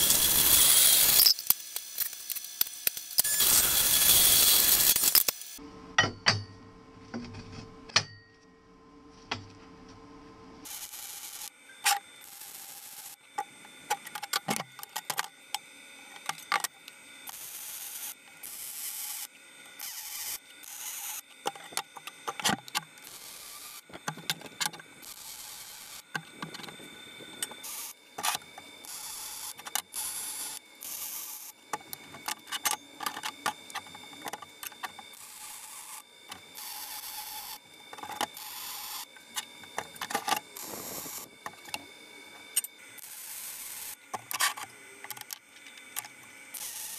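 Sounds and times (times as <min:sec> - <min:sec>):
welding arc crackling and hissing: 0:00.0 - 0:05.6, 0:10.6 - 0:46.9.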